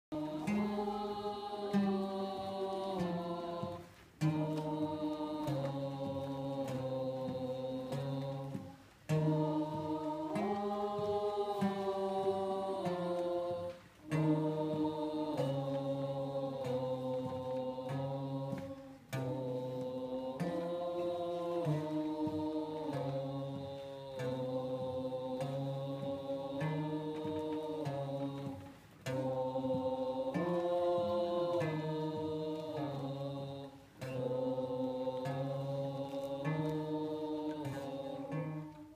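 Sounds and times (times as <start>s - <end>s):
choir singing sustained chords: 0.0s - 38.9s.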